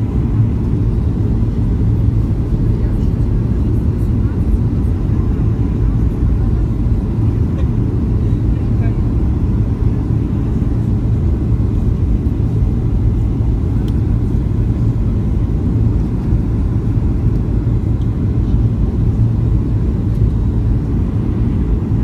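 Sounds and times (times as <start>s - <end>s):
jet engine rumble inside cabin: 0.0s - 22.0s.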